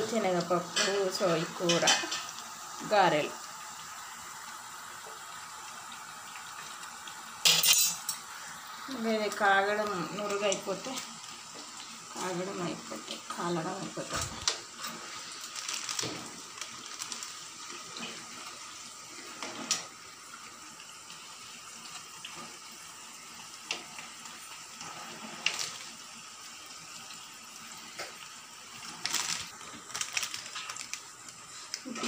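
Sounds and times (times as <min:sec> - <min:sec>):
oil sizzling while deep-frying: 0:00.0 - 0:32.0.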